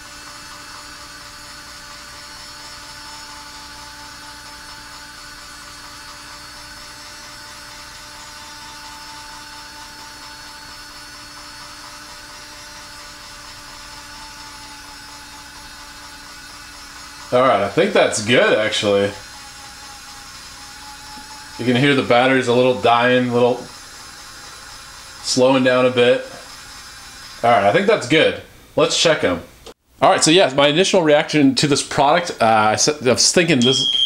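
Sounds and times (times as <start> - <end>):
small motor whirring: 0.0 - 28.0.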